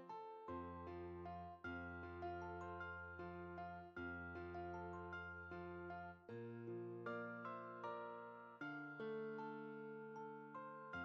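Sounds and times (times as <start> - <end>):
soft keyboard chords: 0.0 - 11.0.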